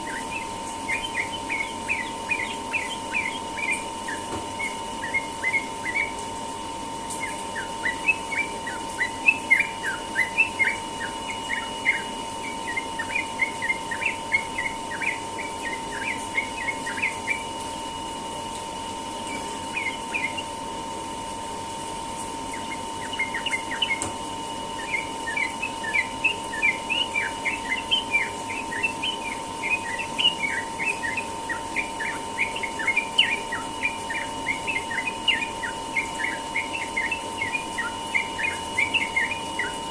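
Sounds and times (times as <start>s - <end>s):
bird chattering song: 0.0s - 6.3s, 7.1s - 17.6s, 19.2s - 20.6s, 22.5s - 24.1s, 24.7s - 39.9s.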